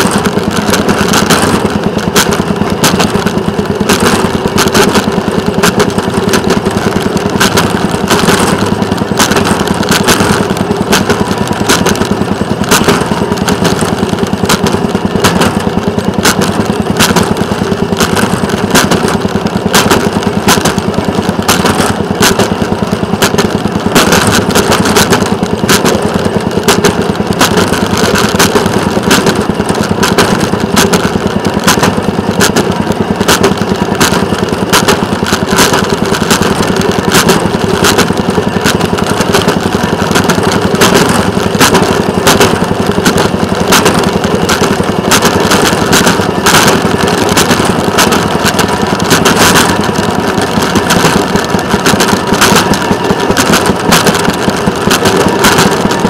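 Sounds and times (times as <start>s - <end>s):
small motorcar engine running: 0.0s - 56.0s
wheels clicking over rail joints: 0.0s - 56.0s.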